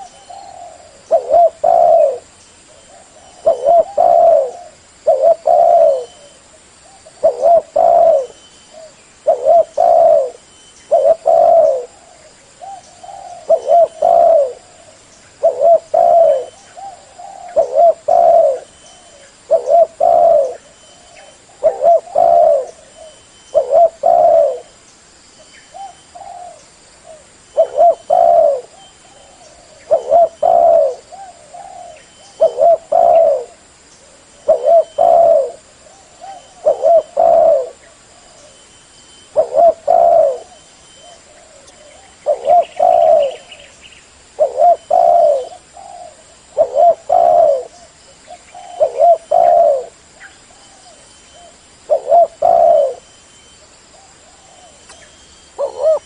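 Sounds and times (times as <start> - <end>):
dove cooing: 0.0 - 24.8, 25.7 - 38.6, 39.2 - 43.7, 44.3 - 53.1, 53.9 - 56.0.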